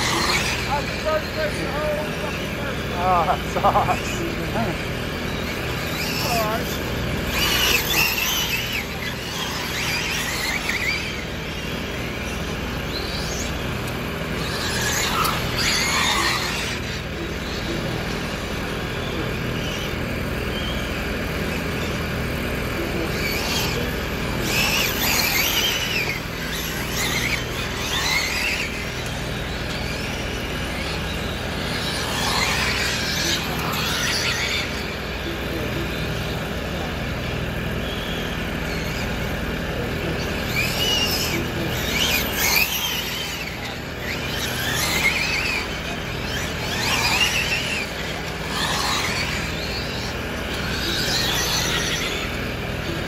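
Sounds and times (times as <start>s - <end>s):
electric motors whining: 0.0s - 53.0s
steady background rush: 0.0s - 53.0s
tyres squealing: 0.0s - 53.0s.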